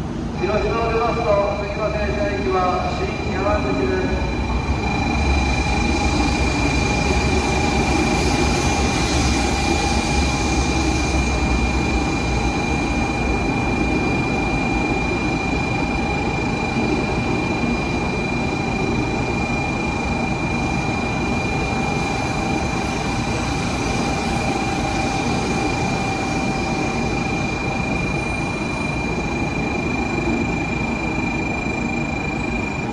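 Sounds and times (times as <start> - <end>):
train mechanical hum: 0.0 - 32.9.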